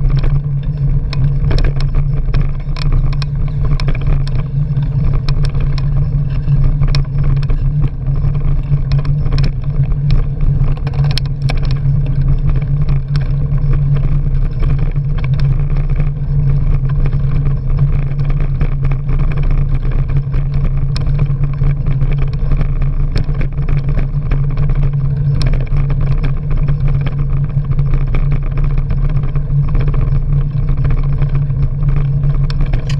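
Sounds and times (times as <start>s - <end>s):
bicycle tyres on path: 0.0s - 32.9s
small clicks and rattles: 0.0s - 32.9s
wind rumble on microphone: 0.0s - 32.9s.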